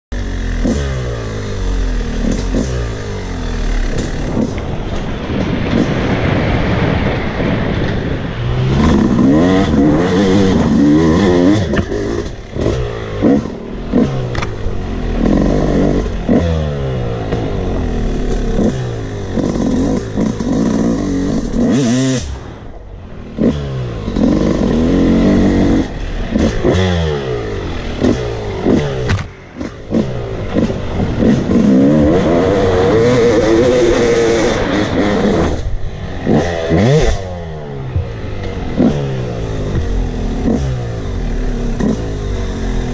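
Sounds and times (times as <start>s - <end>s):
two-stroke dirt bike engine revving: 0.1s - 4.8s, 8.4s - 22.6s, 23.2s - 42.9s.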